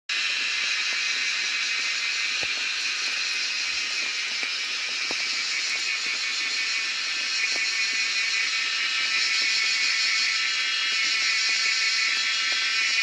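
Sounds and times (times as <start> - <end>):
high-pitched insect chorus: 0.1 - 13.0.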